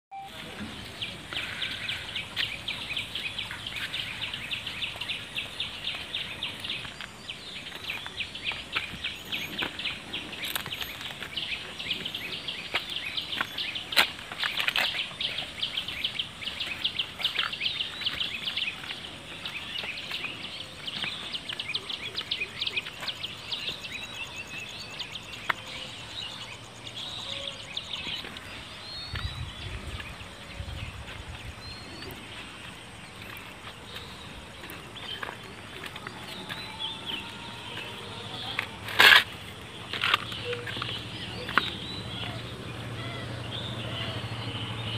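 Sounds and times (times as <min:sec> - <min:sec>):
outdoor background noise: 0:00.1 - 0:44.9
small birds chirping: 0:00.1 - 0:44.9.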